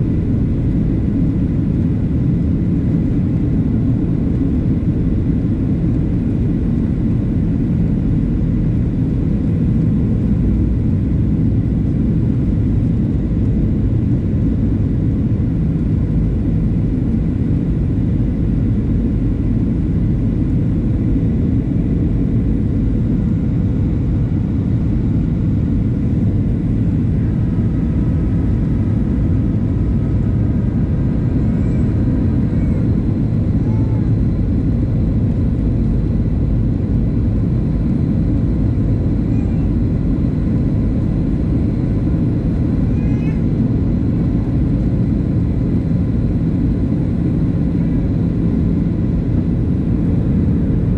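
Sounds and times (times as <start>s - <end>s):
airplane cabin rumble: 0.0s - 50.9s.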